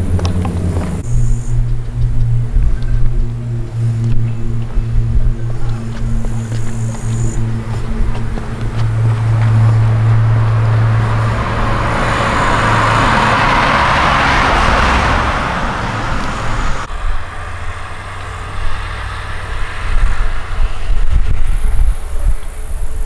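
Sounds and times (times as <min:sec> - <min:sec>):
car passing on road: 0:00.0 - 0:23.0
outdoor background: 0:00.0 - 0:23.0.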